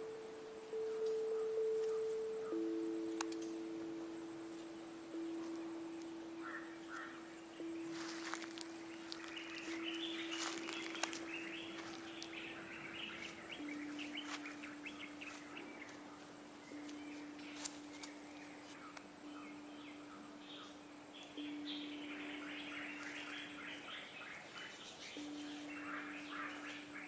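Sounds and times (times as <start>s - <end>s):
faint held tone: 0.0s - 27.0s
small birds chirping: 0.0s - 27.0s.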